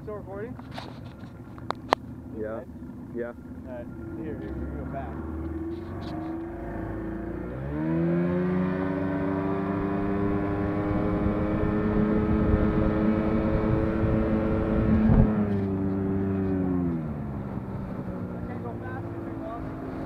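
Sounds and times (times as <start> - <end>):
outboard motor revving: 0.0 - 20.0.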